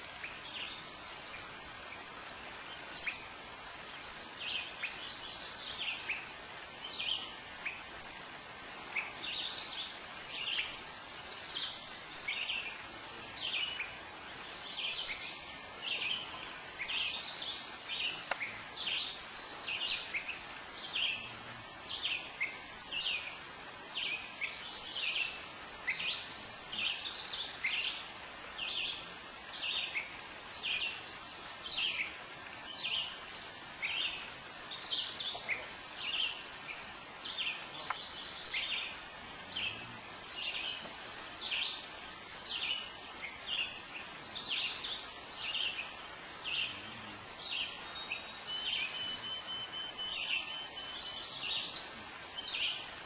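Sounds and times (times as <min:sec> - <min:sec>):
soft steady hiss: 0:00.0 - 0:53.0
songbirds chirping: 0:00.0 - 0:53.0.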